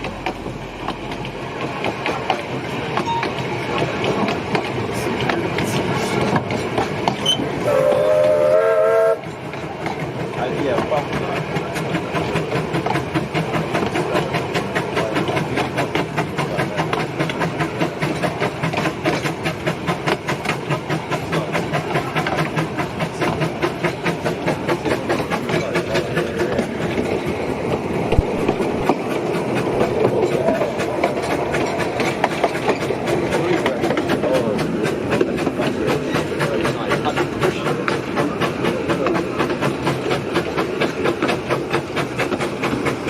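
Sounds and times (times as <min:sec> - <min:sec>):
train running with rhythmic beat: 0:00.0 - 0:43.0.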